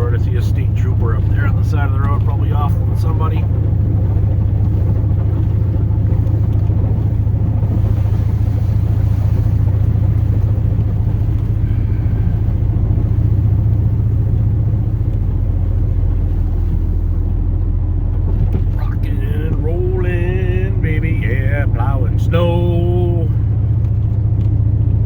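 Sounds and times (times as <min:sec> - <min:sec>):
road noise: 0:00.0 - 0:25.0
truck engine cruising: 0:00.0 - 0:25.0.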